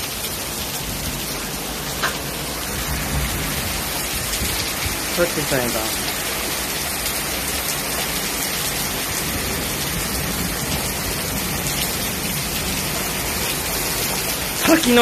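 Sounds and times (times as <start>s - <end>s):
torrential rain pouring: 0.0s - 15.0s.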